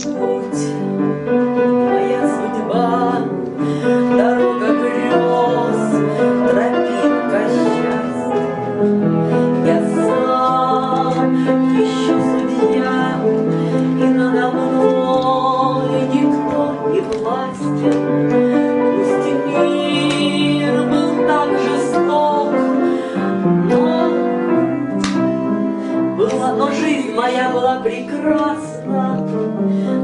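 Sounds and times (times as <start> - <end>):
woman singing with vibrato: 0.0 - 29.4
upright piano chords: 0.0 - 30.0.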